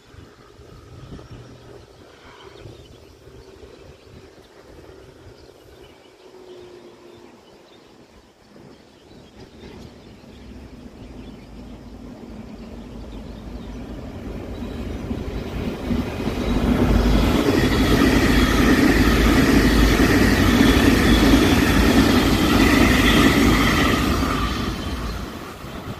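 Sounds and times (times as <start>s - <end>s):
electric train passing: 0.0s - 25.9s.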